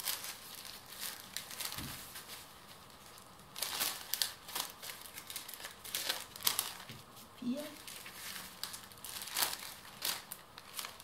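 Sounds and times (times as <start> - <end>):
paper bags rustling: 0.0 - 11.0.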